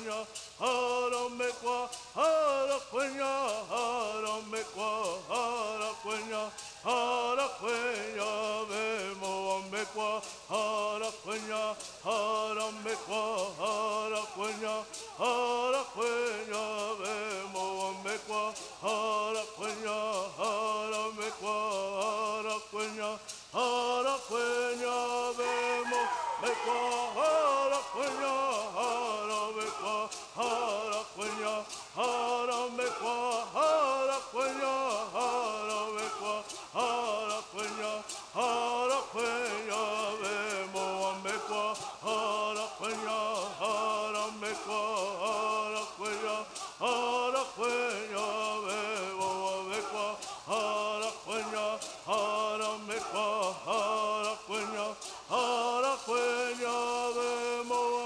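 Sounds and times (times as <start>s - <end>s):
gourd rattles shaking: 0.0s - 58.0s
men singing in unison: 0.0s - 58.0s.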